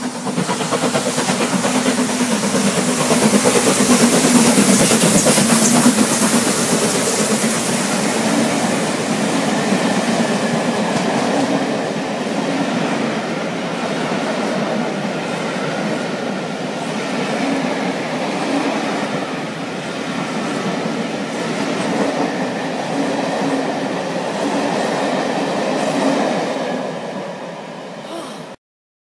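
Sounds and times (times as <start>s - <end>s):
train coaches rumbling and clacking: 0.0s - 28.0s.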